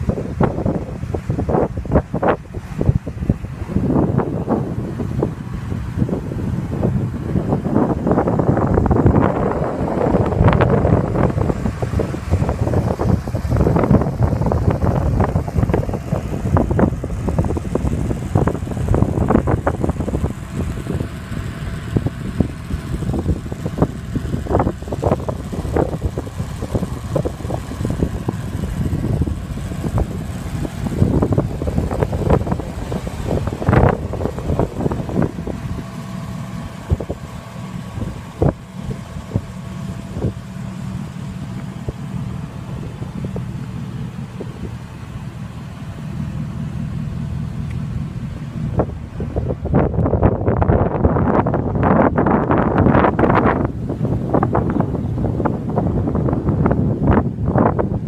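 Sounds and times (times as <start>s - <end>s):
truck engine idling: 0.0s - 58.0s
wind buffeting microphone: 0.0s - 58.0s.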